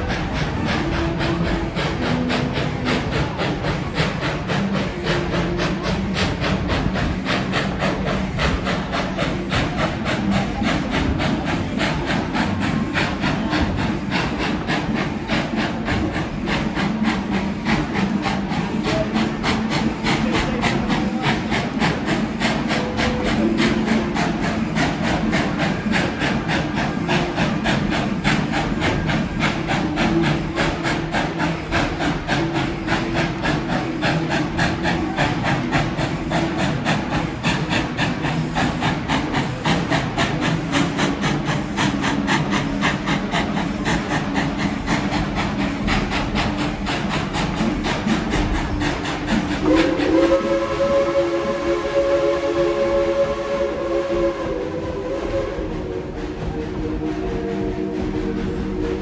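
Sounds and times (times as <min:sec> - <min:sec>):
train clattering: 0:00.0 - 0:59.0.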